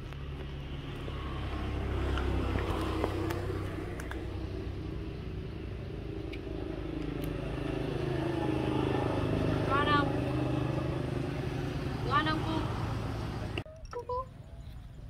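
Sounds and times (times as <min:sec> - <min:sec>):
vehicle engine running: 0:00.0 - 0:13.7.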